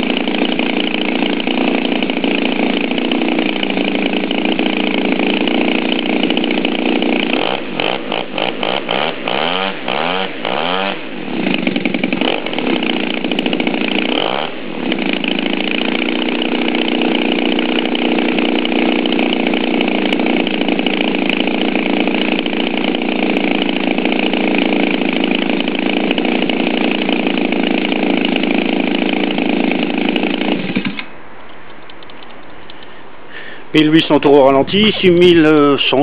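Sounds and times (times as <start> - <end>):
model aircraft engine running: 0.0 - 31.1.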